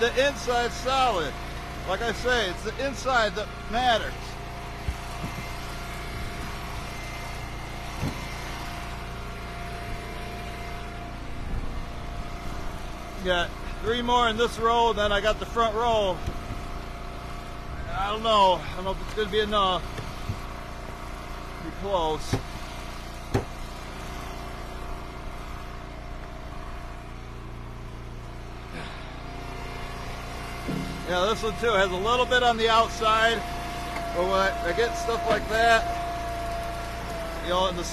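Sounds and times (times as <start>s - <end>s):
log splitter engine running: 0.0s - 37.9s.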